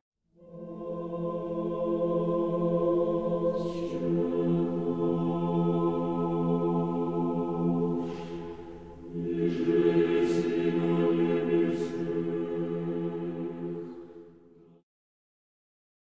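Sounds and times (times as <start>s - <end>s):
slow choral chant: 0.4s - 14.8s.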